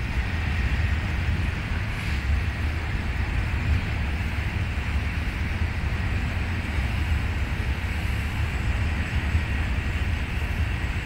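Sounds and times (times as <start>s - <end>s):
train wagons rumbling: 0.0s - 11.0s
hiss: 0.4s - 11.0s.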